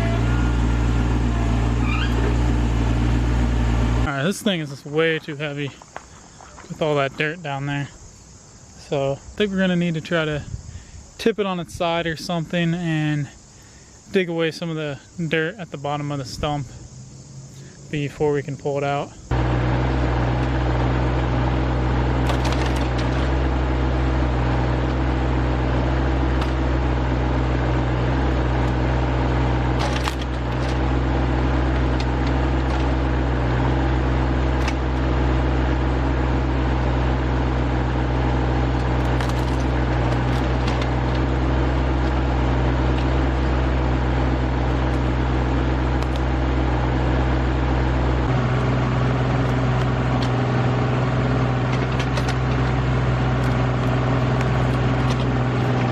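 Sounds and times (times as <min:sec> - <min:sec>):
tractor engine running: 0:00.0 - 0:10.2, 0:13.4 - 0:55.9.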